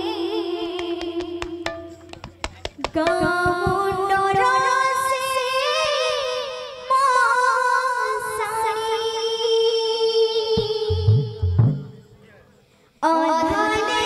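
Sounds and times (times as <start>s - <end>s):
woman singing devotional song: 0.0s - 2.1s, 2.7s - 11.8s, 13.0s - 14.0s.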